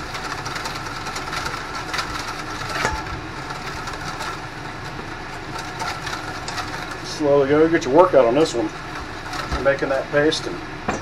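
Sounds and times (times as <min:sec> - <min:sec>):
whisk beating in metal bowl: 0:00.0 - 0:10.8.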